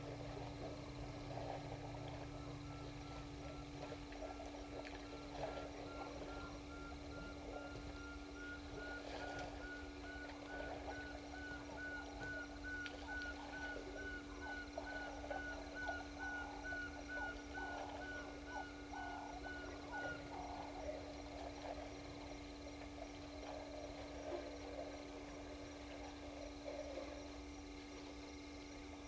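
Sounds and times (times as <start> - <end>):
constant low hum: 0.0 - 29.0.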